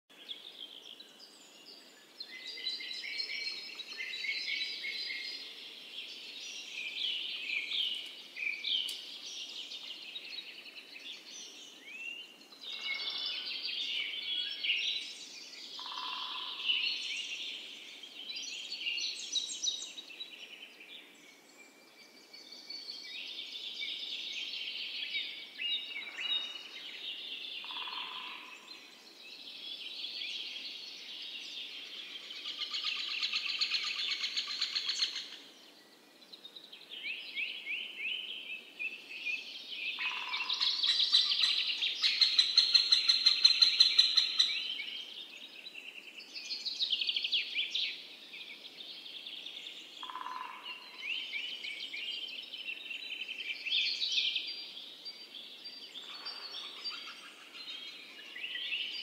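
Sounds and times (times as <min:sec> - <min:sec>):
birds singing and chirping: 0:00.1 - 0:59.0.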